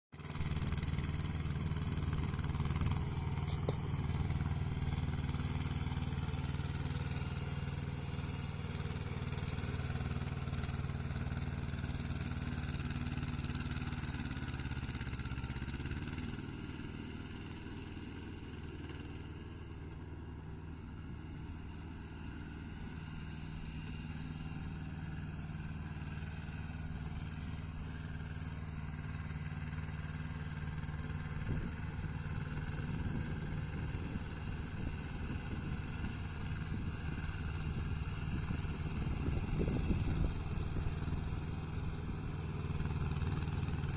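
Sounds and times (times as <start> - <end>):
small tractor engine running: 0.2 - 43.9.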